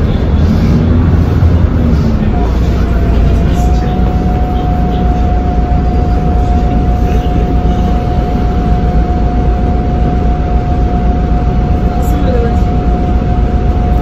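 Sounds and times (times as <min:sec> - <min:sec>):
bus engine and road rumble: 0:00.0 - 0:14.0
steady high tone: 0:00.0 - 0:14.0.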